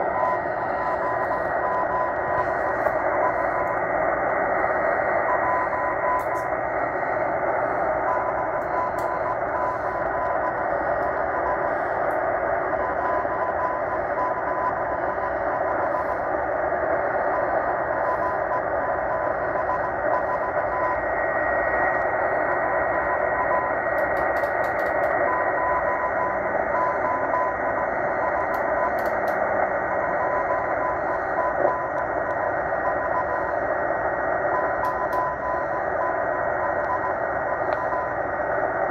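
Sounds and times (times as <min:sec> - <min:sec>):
faint steady whistle: 0:00.0 - 0:38.9
shortwave radio hiss: 0:00.0 - 0:38.9.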